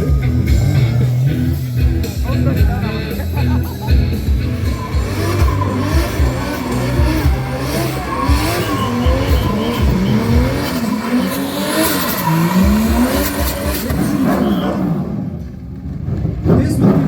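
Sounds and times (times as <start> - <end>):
tyres squealing: 0.0 - 15.0
car engine revving: 0.0 - 17.0.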